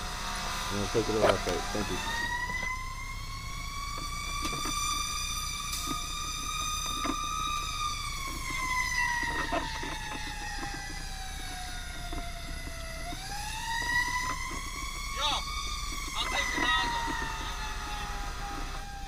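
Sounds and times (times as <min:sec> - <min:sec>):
fire truck siren wailing: 0:00.0 - 0:19.0
truck engine rumble: 0:00.0 - 0:19.0.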